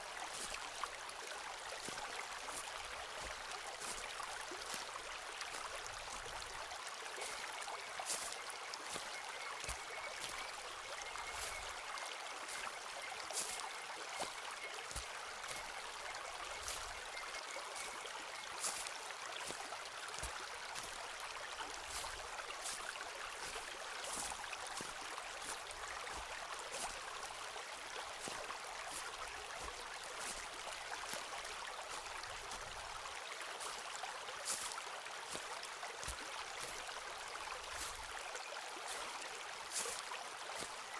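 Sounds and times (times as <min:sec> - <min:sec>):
footsteps on a forest path: 0:00.0 - 0:40.9
stream running: 0:00.0 - 0:40.9.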